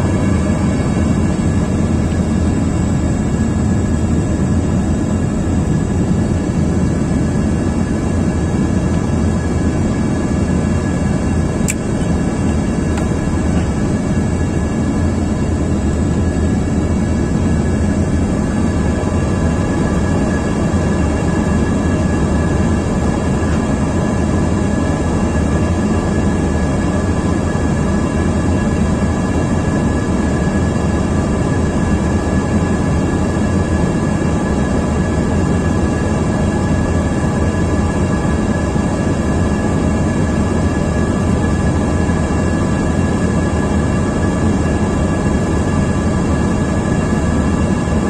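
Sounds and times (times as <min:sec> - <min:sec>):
jet cabin rumble: 0:00.0 - 0:48.0.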